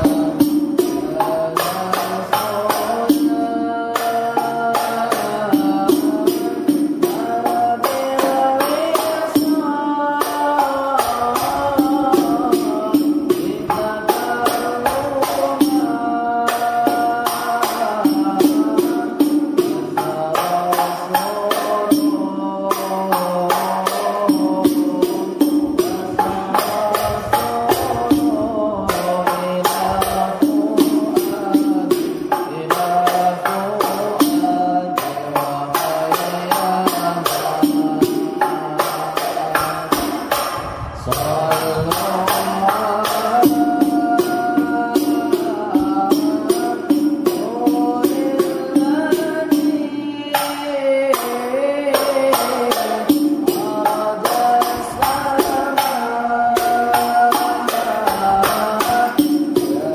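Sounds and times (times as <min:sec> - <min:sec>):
frame drum and jingle percussion: 0:00.0 - 0:59.9.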